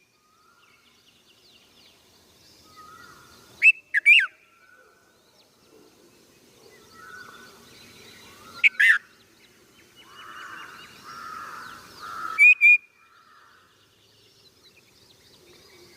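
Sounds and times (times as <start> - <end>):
bird chirping calls: 0.2 - 15.9.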